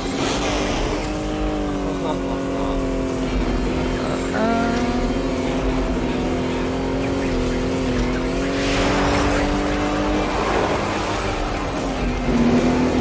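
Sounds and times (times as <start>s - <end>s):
cartoon vehicle engine: 0.0s - 13.0s.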